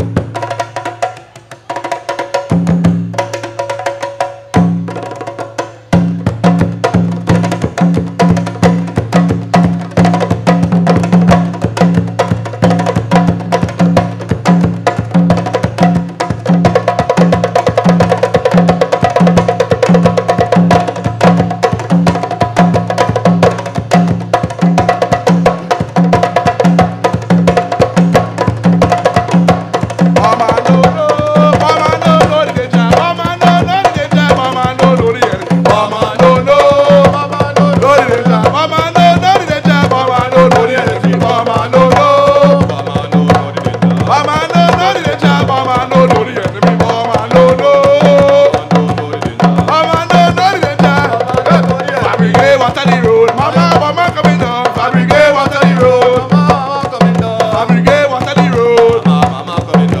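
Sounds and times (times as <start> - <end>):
hand drums playing: 0.0 - 60.0
man singing: 5.6 - 60.0.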